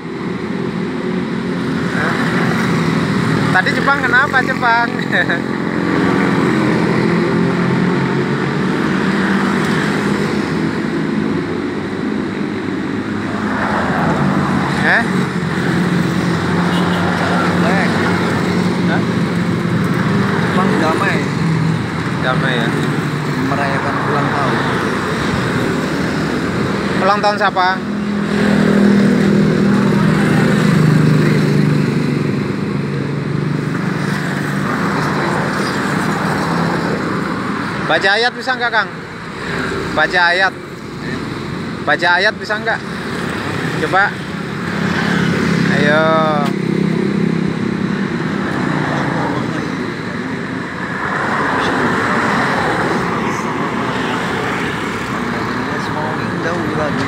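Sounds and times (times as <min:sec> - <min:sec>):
road traffic drone: 0:00.0 - 0:57.0
motorcycle passing: 0:01.1 - 0:37.9, 0:39.3 - 0:57.0.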